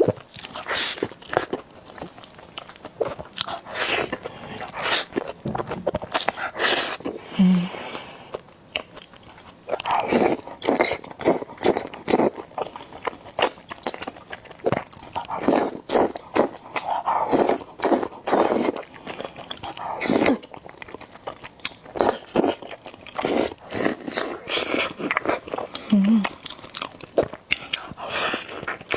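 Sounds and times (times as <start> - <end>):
eating noodles with wet chewing: 0.0 - 28.9.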